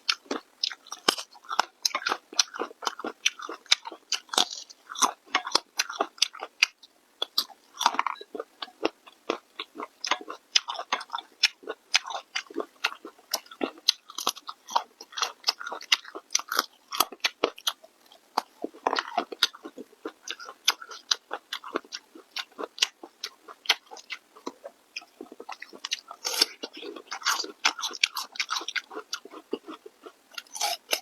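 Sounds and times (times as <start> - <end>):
close chewing and biting: 0.0 - 31.0.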